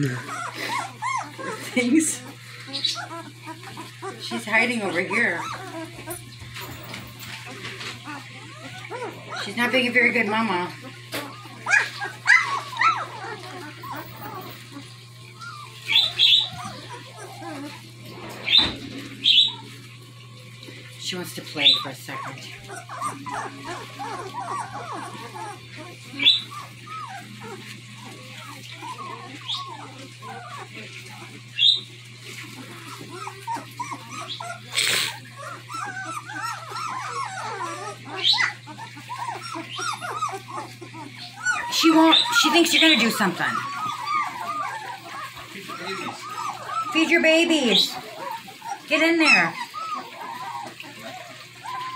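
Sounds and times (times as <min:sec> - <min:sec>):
puppies whining and squealing: 0:00.0 - 0:51.9.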